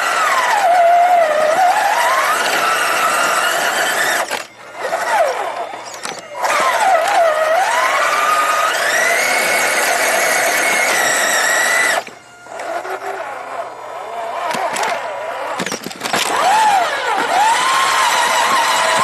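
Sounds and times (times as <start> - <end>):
electric motor and gearbox whine: 0.0 - 19.0.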